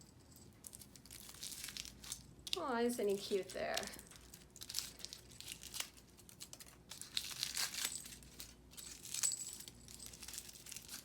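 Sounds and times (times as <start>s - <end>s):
foil wrapper crinkling and tearing: 0.7s - 11.0s.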